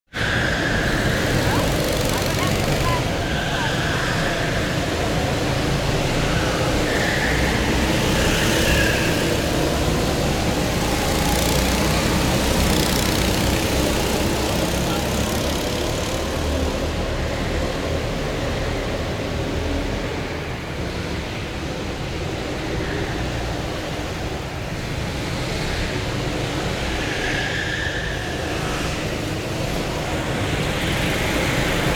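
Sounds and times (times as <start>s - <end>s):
go-kart engines passing: 0.2s - 31.9s.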